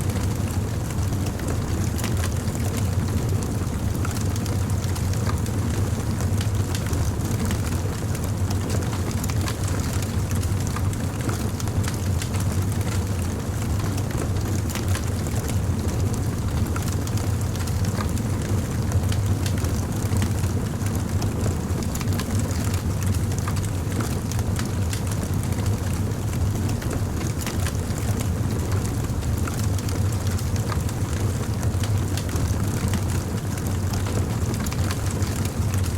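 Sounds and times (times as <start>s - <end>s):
fire crackling and popping: 4.0s - 35.9s.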